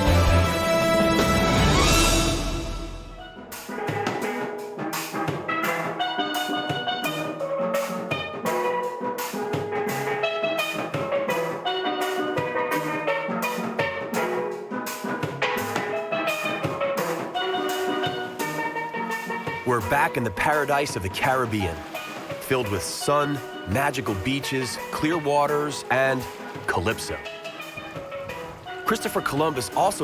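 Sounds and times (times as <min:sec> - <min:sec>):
steel pan melody: 0:00.0 - 0:20.3, 0:21.0 - 0:30.0
drums and percussion: 0:00.0 - 0:30.0.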